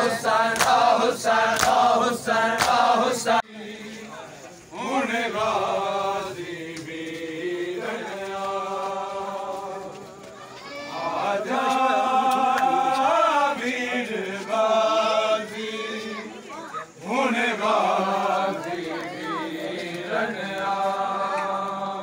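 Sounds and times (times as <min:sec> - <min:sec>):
men chanting a mourning lament: 0:00.0 - 0:10.3, 0:10.9 - 0:22.0.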